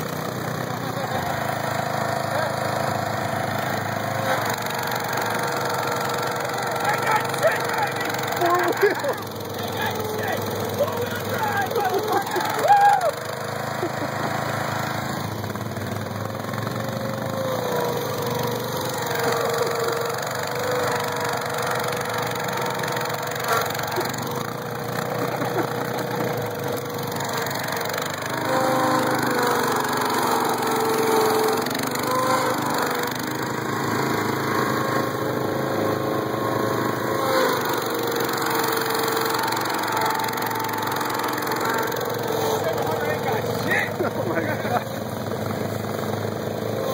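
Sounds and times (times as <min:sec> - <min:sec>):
engines running under load: 0:00.0 - 0:46.9.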